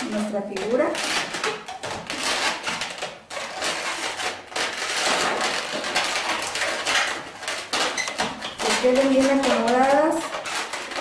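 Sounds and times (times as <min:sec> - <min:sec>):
balloons rubbing and squeaking: 0:00.0 - 0:11.0.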